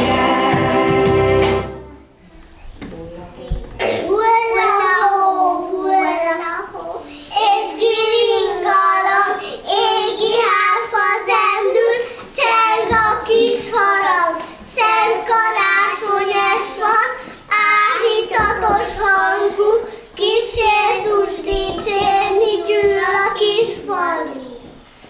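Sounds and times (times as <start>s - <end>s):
young children singing: 0.0s - 2.1s, 3.8s - 24.8s.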